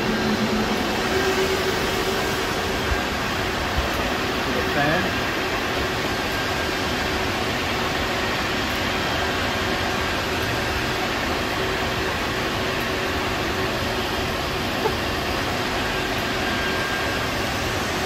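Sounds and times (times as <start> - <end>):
cooling fans whirring: 0.0 - 18.0.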